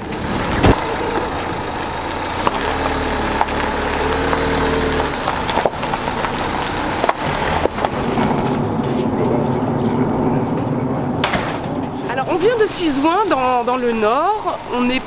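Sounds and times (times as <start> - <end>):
engine running low: 0.0 - 15.0
tyres crunching on gravel: 0.0 - 15.0.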